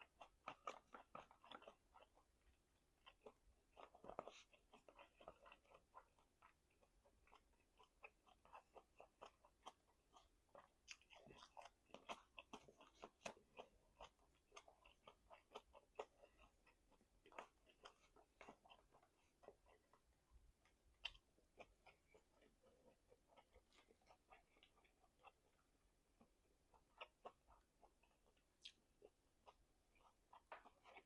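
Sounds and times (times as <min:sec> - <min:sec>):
person chewing meat: 0:00.0 - 0:31.0.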